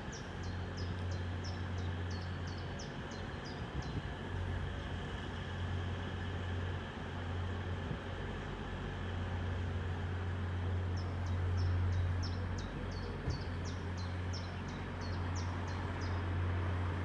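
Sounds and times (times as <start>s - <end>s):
diesel train idling: 0.0s - 17.0s.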